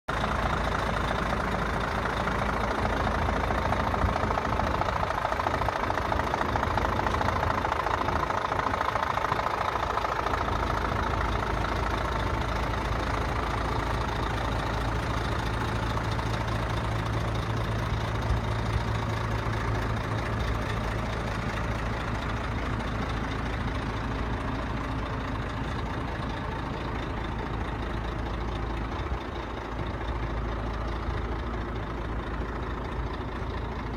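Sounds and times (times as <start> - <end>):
diesel truck engine idling: 0.1 - 33.9.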